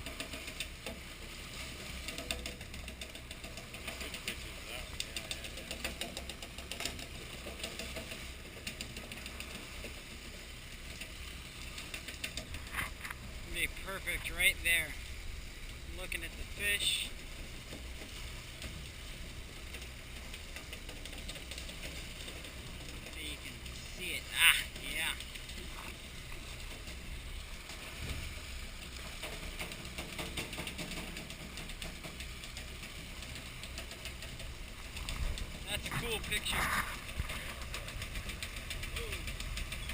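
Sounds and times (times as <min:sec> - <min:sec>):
sharp clicks and knocks: 0:00.0 - 0:01.1, 0:01.9 - 0:15.0, 0:15.6 - 0:39.9
boat engine throbbing: 0:00.0 - 0:39.9.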